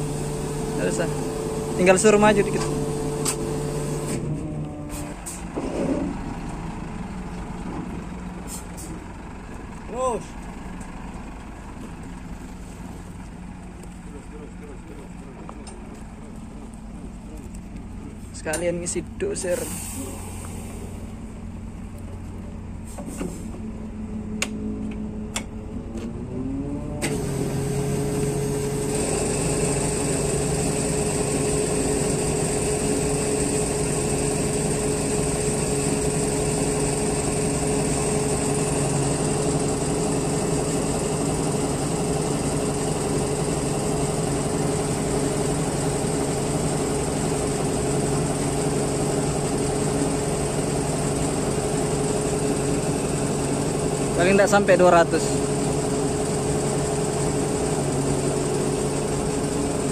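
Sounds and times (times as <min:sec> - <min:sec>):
engine running with hum: 0:00.0 - 0:59.9.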